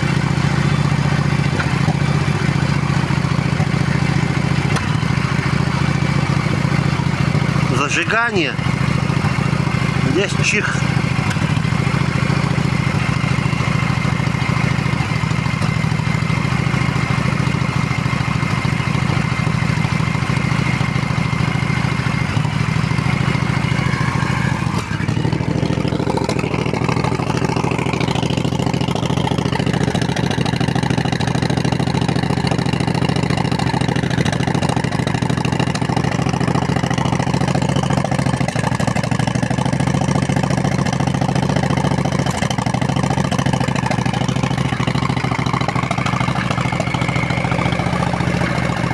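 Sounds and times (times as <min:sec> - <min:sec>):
engine misfire: 0:00.0 - 0:48.9
motorcycle engine idling: 0:00.0 - 0:48.9.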